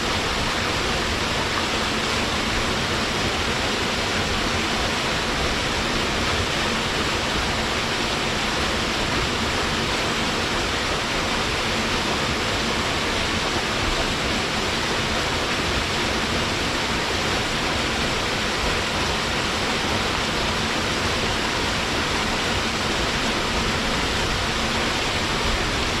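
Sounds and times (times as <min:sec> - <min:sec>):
waterfall pouring and splashing: 0:00.0 - 0:26.0.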